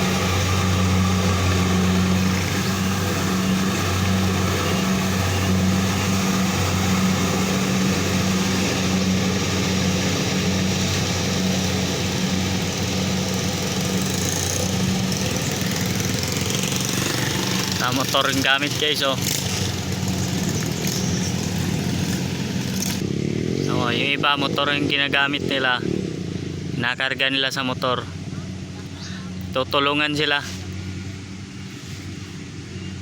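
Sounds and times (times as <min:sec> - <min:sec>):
small engine humming: 0:00.0 - 0:26.8, 0:27.7 - 0:33.0.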